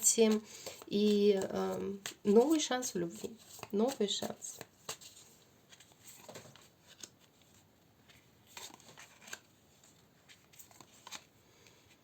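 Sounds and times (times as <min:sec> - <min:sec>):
cards rustling and clicking: 0:00.0 - 0:12.0.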